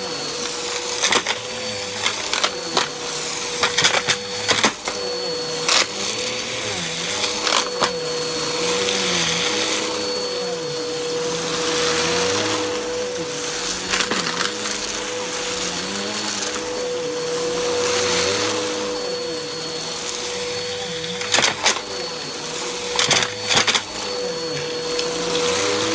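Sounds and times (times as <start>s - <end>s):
vacuum cleaner running on carpet: 0.0s - 25.9s.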